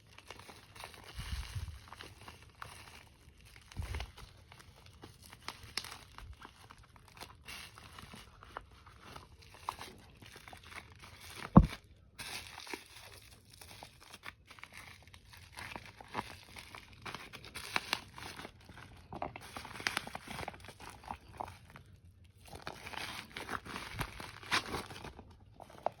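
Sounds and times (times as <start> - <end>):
plastic packaging crinkling and tearing: 0.0 - 26.0.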